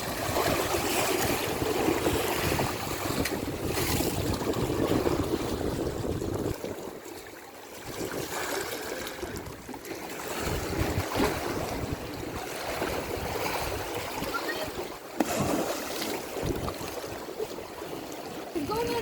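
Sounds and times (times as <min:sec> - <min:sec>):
wind buffeting microphone: 0:00.0 - 0:07.1, 0:07.8 - 0:15.0, 0:16.2 - 0:17.2
waves washing: 0:00.0 - 0:19.0.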